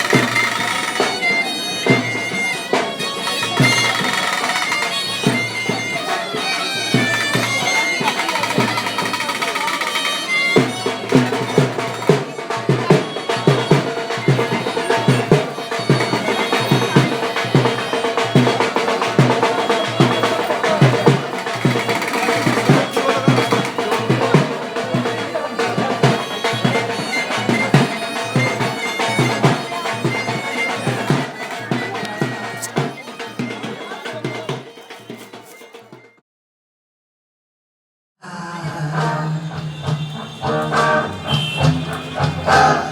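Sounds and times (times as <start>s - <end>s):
reedy wind instrument: 0.0s - 35.4s, 38.2s - 42.9s
steady drum beat: 0.0s - 36.0s, 39.0s - 42.9s
market crowd noise: 0.0s - 36.2s, 38.2s - 42.9s.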